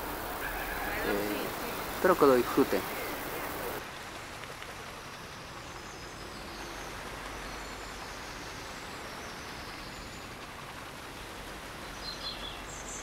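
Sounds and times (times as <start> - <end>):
outdoor ambient hiss: 0.0 - 13.0.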